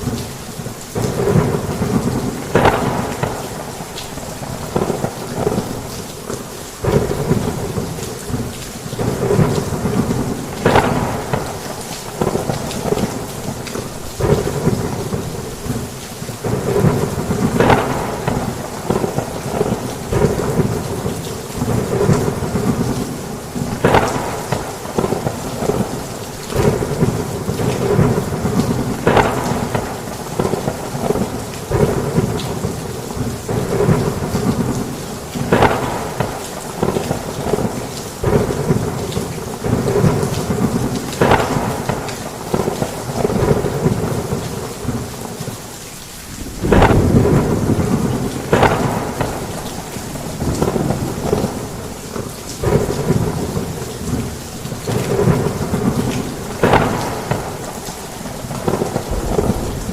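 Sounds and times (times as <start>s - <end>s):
heavy rain on a roof: 0.0s - 59.9s
thunder cracking: 1.0s - 5.9s, 6.8s - 13.6s, 14.2s - 45.0s, 46.4s - 51.9s, 52.6s - 59.9s.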